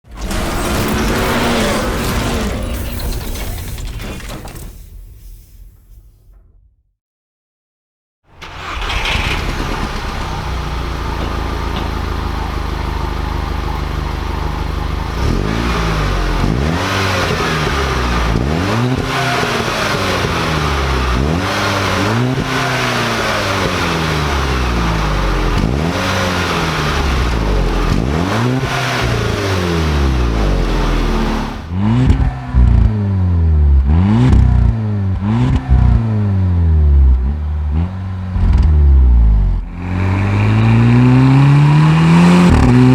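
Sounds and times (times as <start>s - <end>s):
car engine idling and revving: 8.4s - 42.9s.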